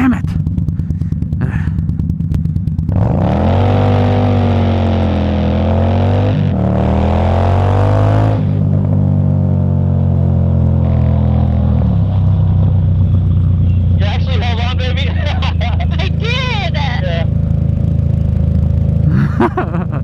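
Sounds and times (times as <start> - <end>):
motorcycle engine pulling away: 0.3 - 14.1, 17.2 - 20.0.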